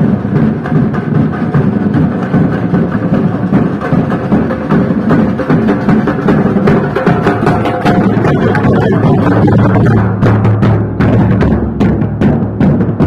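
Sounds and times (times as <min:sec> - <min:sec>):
loud drum and percussion music: 0:00.0 - 0:13.0.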